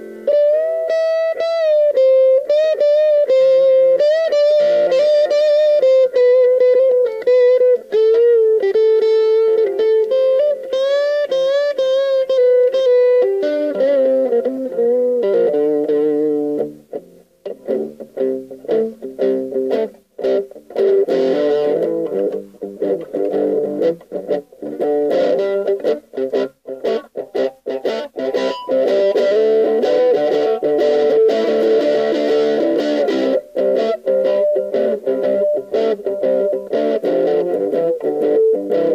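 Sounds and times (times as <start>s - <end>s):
overdriven electric guitar: 0.0s - 38.9s.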